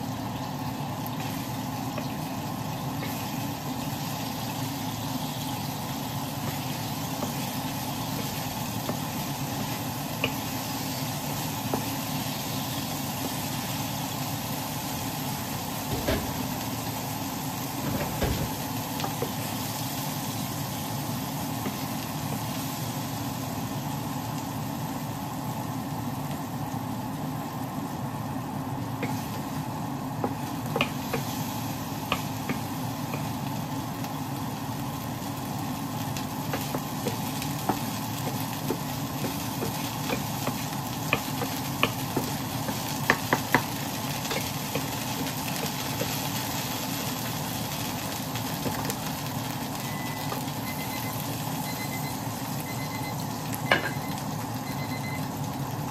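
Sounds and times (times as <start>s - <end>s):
oil sizzling in frying pan: 0.0s - 55.9s.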